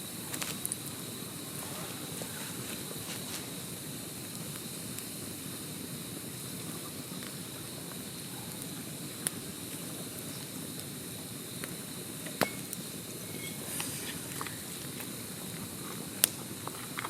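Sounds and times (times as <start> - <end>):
campfire hissing: 0.0 - 17.0
fire crackles and pops: 0.0 - 17.0.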